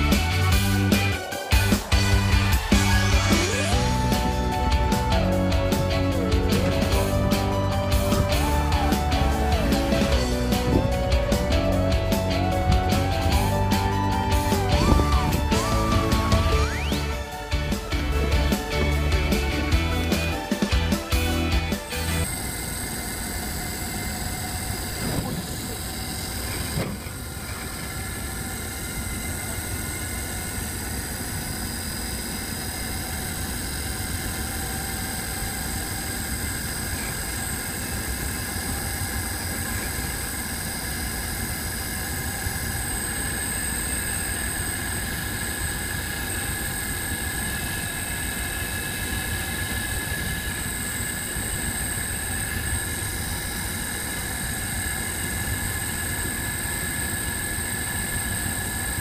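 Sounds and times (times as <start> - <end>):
boat engine running: 0.0 - 59.0
faint steady whines: 0.0 - 59.0.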